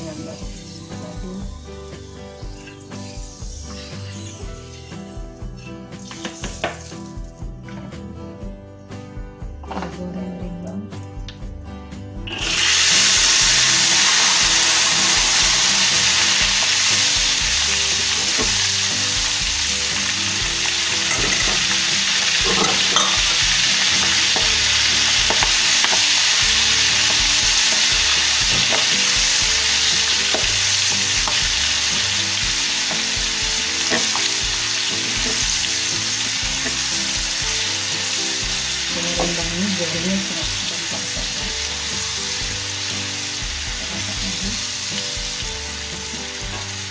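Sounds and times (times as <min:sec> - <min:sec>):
food sizzling in hot oil: 0:00.0 - 0:07.4, 0:12.3 - 0:46.9.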